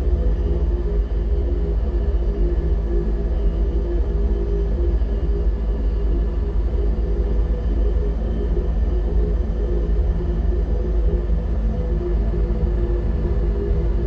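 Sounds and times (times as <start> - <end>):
deep machine hum: 0.0 - 14.0.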